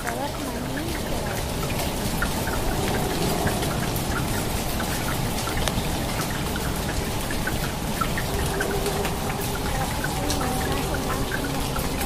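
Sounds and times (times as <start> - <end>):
close raindrop ticks: 0.0 - 12.0
steady rain: 0.0 - 12.0.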